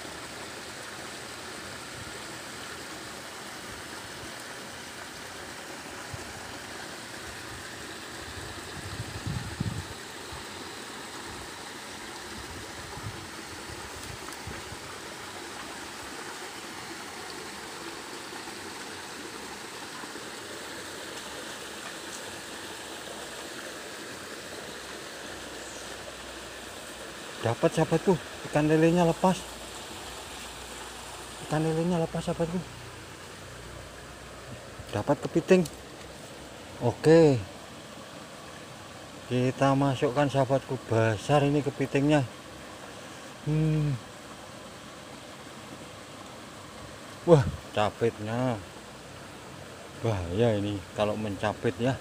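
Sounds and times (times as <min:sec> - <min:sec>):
stream water running over rocks: 0:00.0 - 0:52.0.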